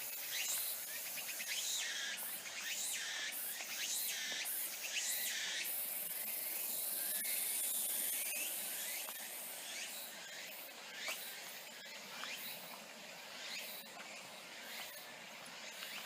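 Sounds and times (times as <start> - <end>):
insect high-pitched pulsing call: 0.0 - 16.0
steady high insect hiss: 0.0 - 16.0.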